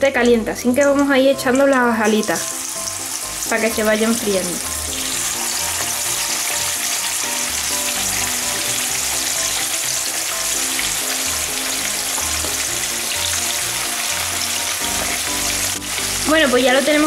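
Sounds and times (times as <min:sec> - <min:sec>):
chicken wings sizzling in oil: 0:00.4 - 0:17.0
background music with bass: 0:02.8 - 0:17.0.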